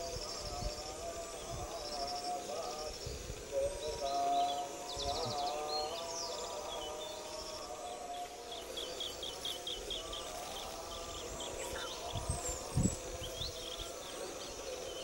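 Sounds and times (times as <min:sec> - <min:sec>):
bird chirping: 0:00.0 - 0:15.0
insect drone: 0:00.0 - 0:15.0.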